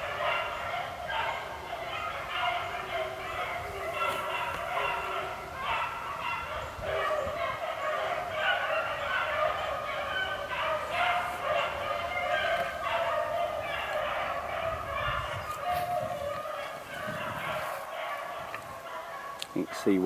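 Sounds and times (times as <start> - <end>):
hounds baying: 0.0 - 20.0.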